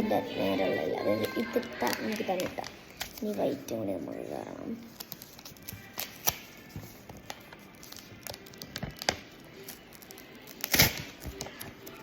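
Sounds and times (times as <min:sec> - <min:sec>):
paper wrapper crinkling: 0:00.0 - 0:12.0.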